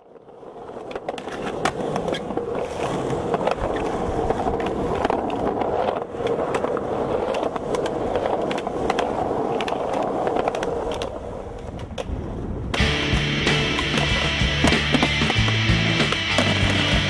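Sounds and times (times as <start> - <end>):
skateboard clacking and scraping: 0.0 - 17.0
skateboard wheels rolling on concrete: 0.0 - 17.0.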